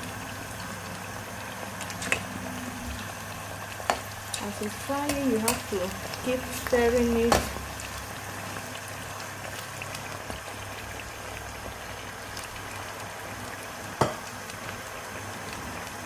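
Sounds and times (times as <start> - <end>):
potatoes sizzling in oil: 0.0 - 16.0.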